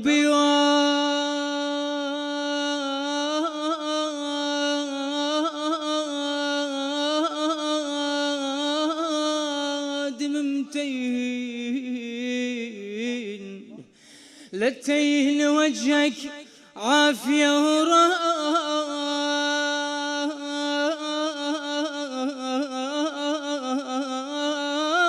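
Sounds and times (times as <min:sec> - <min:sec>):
man singing long quavering note: 0:00.0 - 0:13.7, 0:15.3 - 0:25.0.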